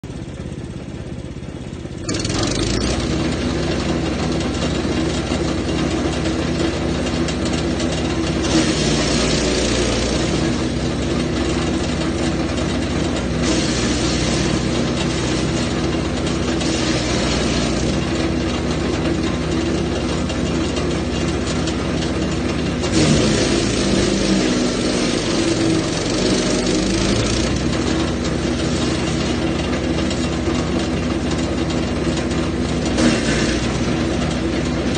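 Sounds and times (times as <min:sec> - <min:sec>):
wood chipper engine: 0:00.0 - 0:34.9
wood chipper shredding branches: 0:00.1 - 0:34.9.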